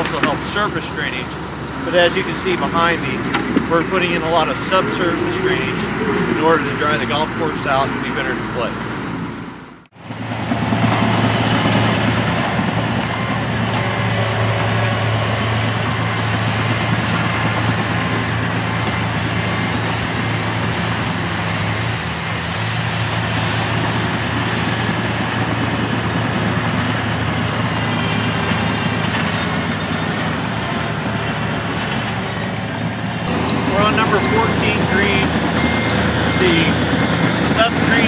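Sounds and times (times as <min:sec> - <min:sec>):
heavy machinery engine droning: 0:00.0 - 0:38.0.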